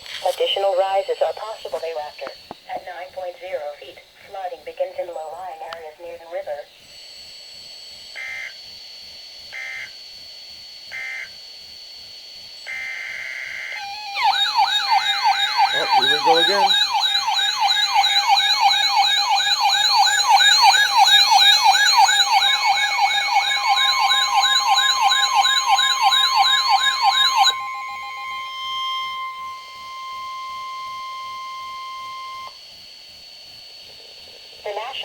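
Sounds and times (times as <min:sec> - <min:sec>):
steady warning alarm tone: 0:00.0 - 0:35.0
warbling electronic siren alarm: 0:00.2 - 0:04.0, 0:04.6 - 0:35.0.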